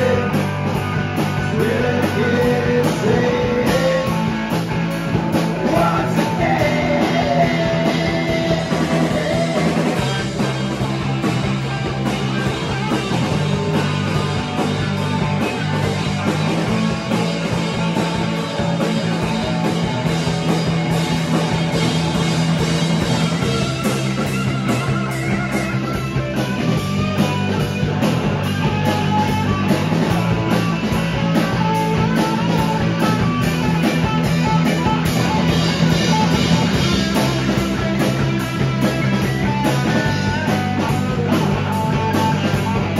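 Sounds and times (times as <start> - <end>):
drum kit: 0.0 - 42.9
electric bass: 0.0 - 42.9
electric guitars: 0.0 - 42.9.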